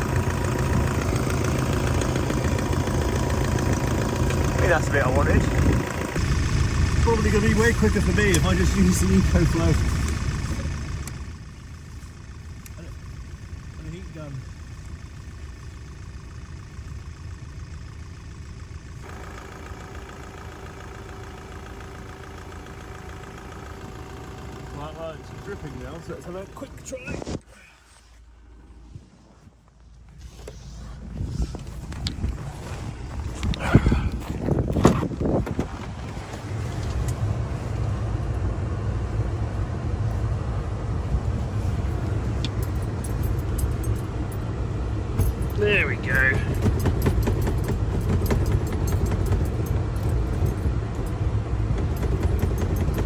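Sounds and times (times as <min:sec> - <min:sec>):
van engine idling: 0:00.0 - 0:53.0.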